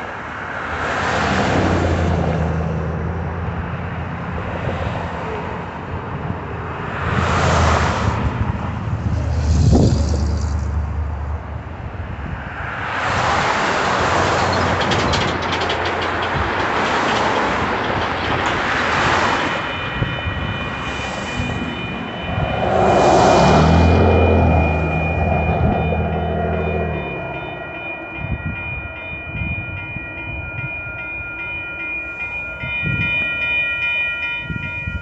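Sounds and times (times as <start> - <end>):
crossing warning bell ringing: 0.0 - 9.2, 10.5 - 35.0
road traffic passing: 0.0 - 35.0.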